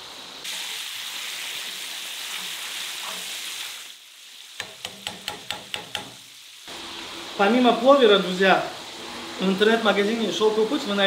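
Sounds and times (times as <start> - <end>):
fish sizzling in hot oil: 0.0 - 9.1.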